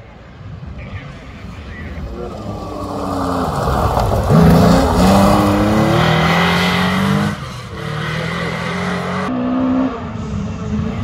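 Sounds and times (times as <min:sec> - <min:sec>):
rally car engine at full throttle: 0:00.3 - 0:11.0.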